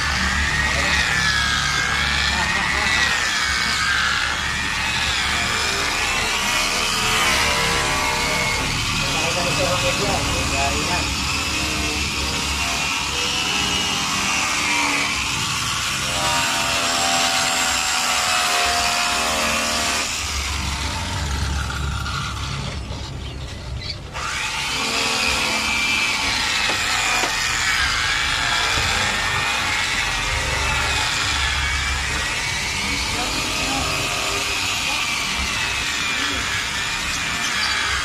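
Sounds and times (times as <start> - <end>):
angle grinder buffing stone: 0.0 - 38.0.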